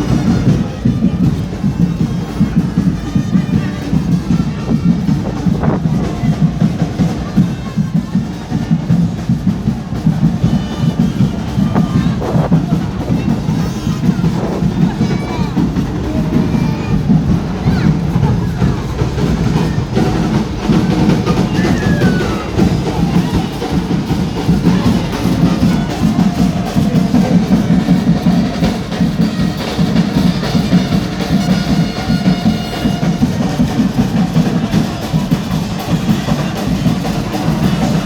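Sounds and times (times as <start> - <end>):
carnival music with fast drumming: 0.0 - 38.0.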